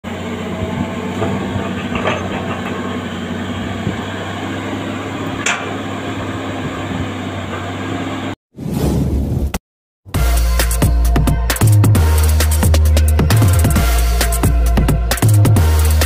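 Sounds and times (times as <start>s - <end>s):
excavator diesel engine running: 0.0s - 8.4s, 10.9s - 16.0s.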